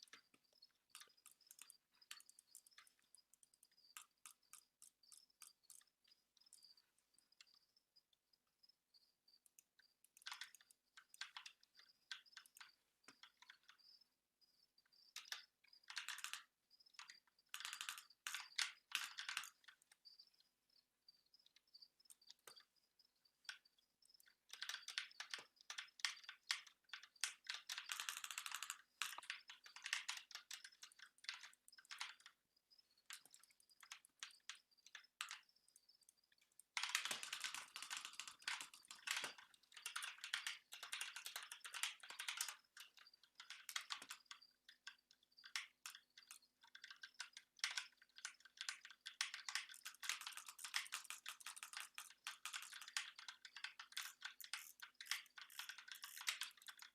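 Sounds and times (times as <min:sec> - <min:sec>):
typing on keyboard: 0:00.0 - 0:07.5, 0:09.4 - 0:14.0, 0:15.1 - 0:20.5, 0:21.4 - 0:22.8, 0:23.4 - 0:56.9.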